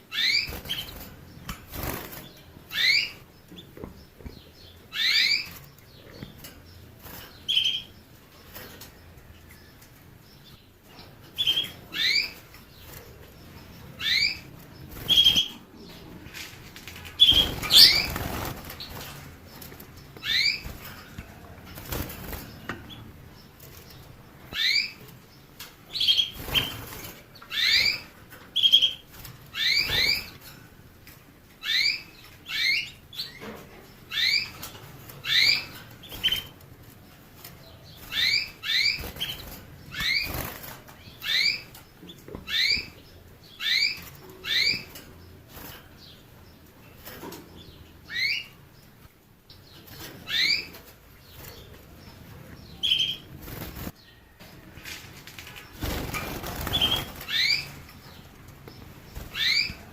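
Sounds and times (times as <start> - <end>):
canary chirping: 0.0 - 54.8, 55.4 - 59.9.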